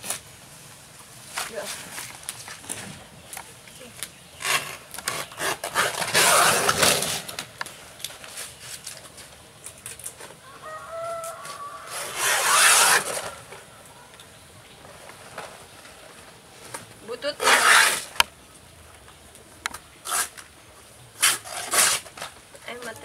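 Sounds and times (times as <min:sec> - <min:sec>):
banana leaves rustling and crackling: 0:00.0 - 0:23.0.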